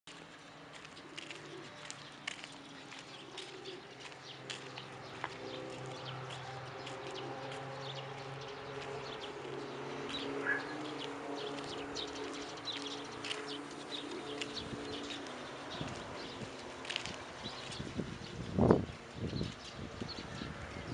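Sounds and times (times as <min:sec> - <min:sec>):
sandal footsteps on gravel: 0:00.1 - 0:19.8
dog paws on gravel: 0:00.1 - 0:20.6
birds calling: 0:00.1 - 0:20.9.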